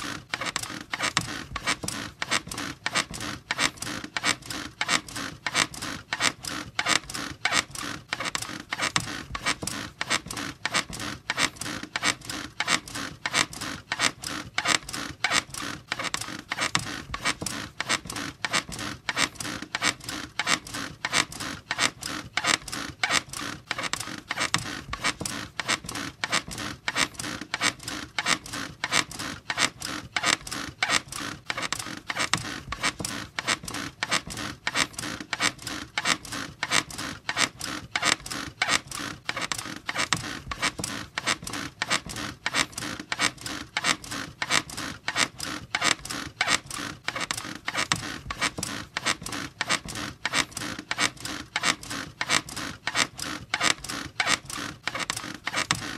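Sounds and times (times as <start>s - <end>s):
bed squeaking rhythmically: 0.0s - 55.9s.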